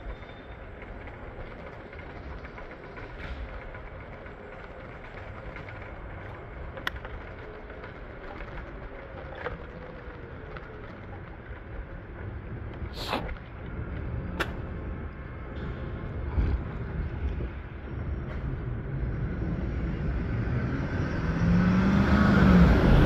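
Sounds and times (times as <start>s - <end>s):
low vehicle rumble: 0.0s - 23.0s.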